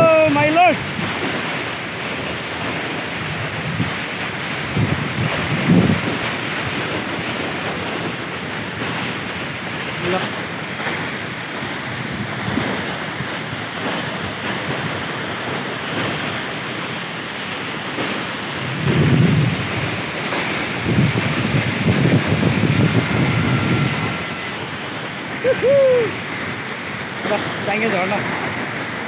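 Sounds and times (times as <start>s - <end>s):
waterfall rushing: 0.0s - 29.0s
wind buffeting microphone: 0.0s - 29.0s.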